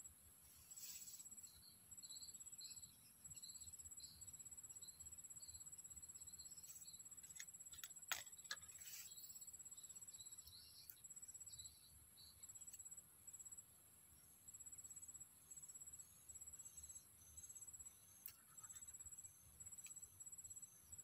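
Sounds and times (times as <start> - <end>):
high-pitched insect trill: 0.7 - 13.6, 14.5 - 21.0.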